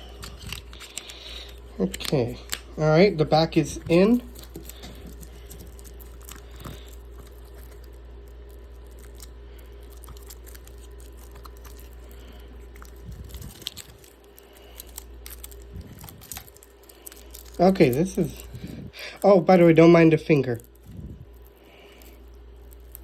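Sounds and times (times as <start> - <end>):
packaging crinkling: 0.0 - 23.0
steady low hum: 0.0 - 23.0.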